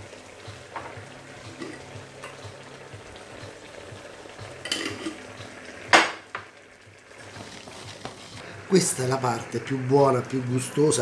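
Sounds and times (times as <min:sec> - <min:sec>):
risotto simmering in a pan: 0:00.0 - 0:11.0.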